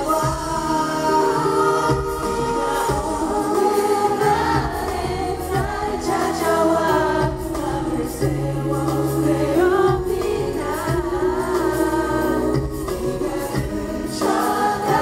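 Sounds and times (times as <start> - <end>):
instrumental accompaniment: 0.0 - 15.0
men singing a slow ballad: 0.0 - 15.0.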